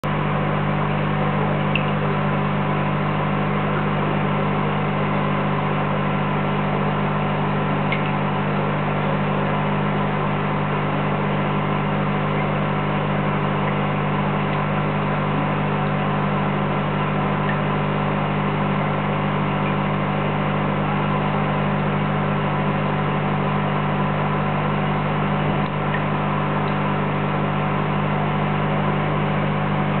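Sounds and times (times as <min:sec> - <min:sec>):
aquarium air pump humming: 0:00.0 - 0:30.0.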